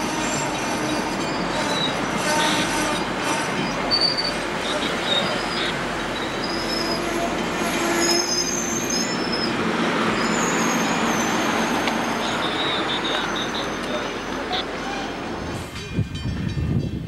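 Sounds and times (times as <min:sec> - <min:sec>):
train wheels rumbling on rail: 0:00.0 - 0:17.0
high-pitched wheel squeals: 0:00.1 - 0:14.2.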